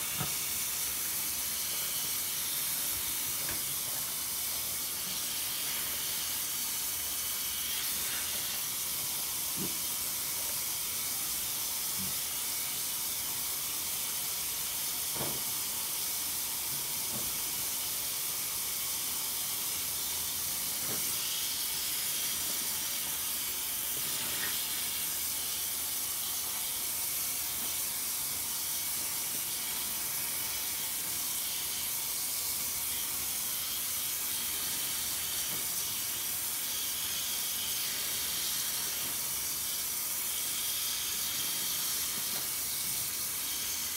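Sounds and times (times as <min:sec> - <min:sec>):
faucet water running into sink: 0:00.0 - 0:43.9.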